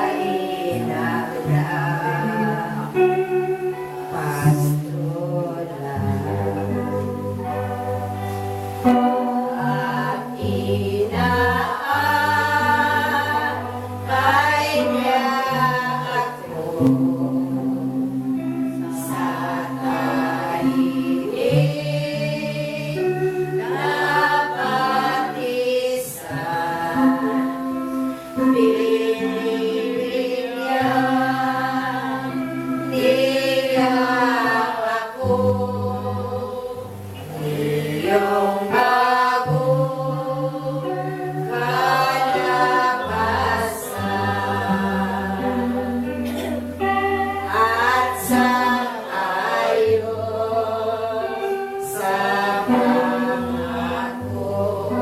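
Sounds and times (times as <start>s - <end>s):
group singing worship melody: 0.0s - 55.0s.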